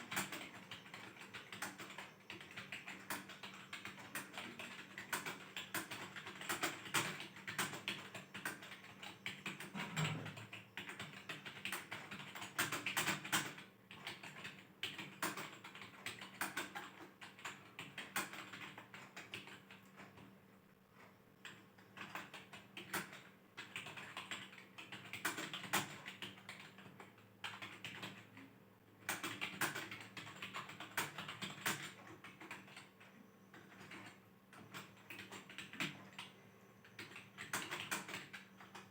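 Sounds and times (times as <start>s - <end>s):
fast typing on keyboard: 0.0s - 20.3s, 21.4s - 38.9s
faint steady hum: 0.0s - 38.9s.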